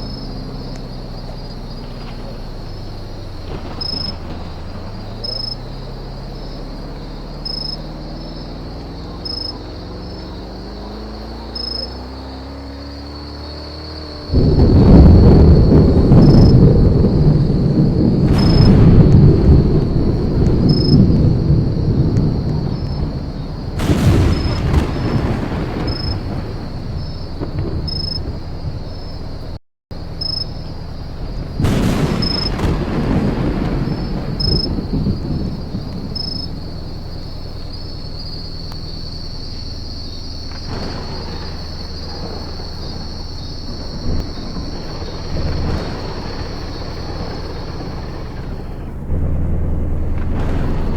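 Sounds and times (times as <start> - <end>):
thunder rolling: 0.0 - 50.9.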